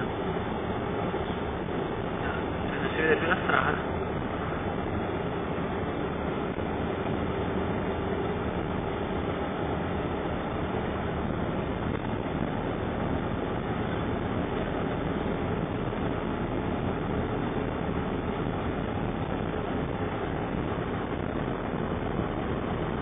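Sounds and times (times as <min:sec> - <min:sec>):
vehicle engine and tyre rumble: 0:00.0 - 0:23.0.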